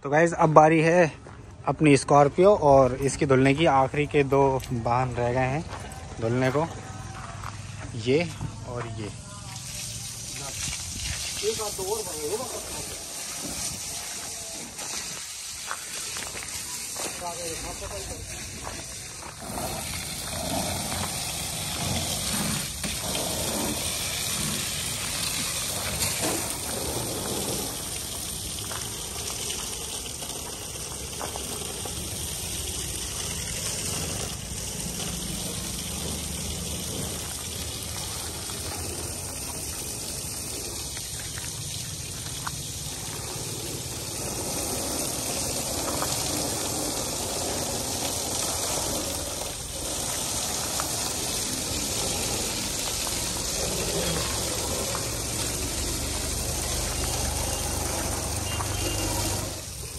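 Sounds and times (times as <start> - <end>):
water jet spraying: 1.7 - 59.9.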